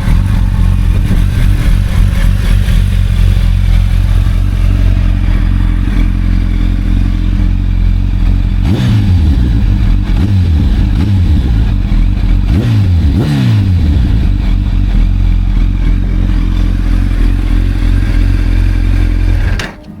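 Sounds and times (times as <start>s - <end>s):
motorcycle engine idling: 0.0s - 20.0s
motorcycle throttle blips: 0.0s - 20.0s.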